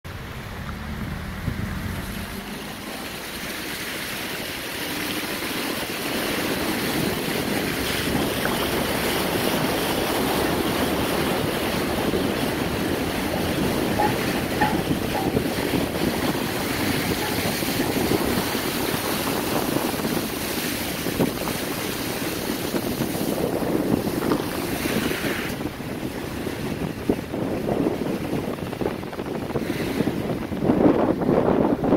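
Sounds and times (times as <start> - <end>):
tyres splashing through water: 0.1 - 31.9.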